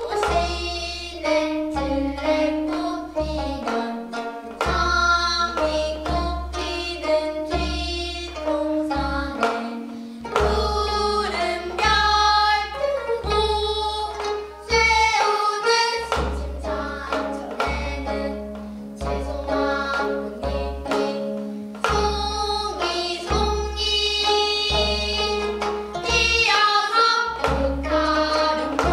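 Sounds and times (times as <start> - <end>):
people singing: 0.0 - 28.9
plucked zither: 0.0 - 28.9.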